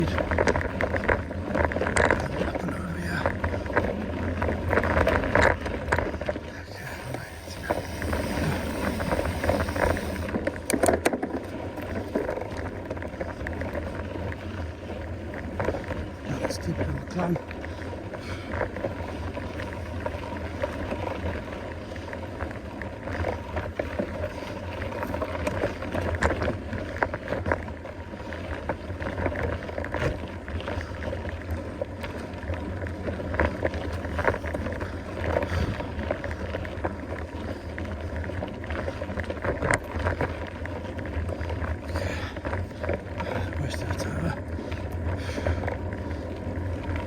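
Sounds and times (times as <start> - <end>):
bike tyres rolling over dirt: 0.0 - 47.0.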